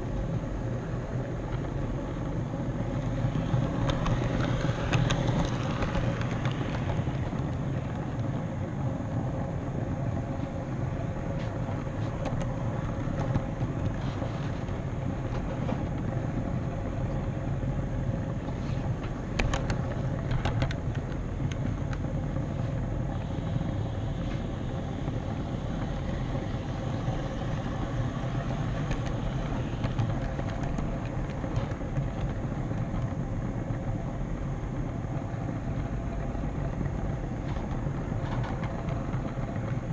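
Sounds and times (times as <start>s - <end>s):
locomotive motor hum: 0.0s - 39.9s
model train wheels rumbling on rail: 0.0s - 39.9s
wheels clicking over rail joints: 0.0s - 39.9s.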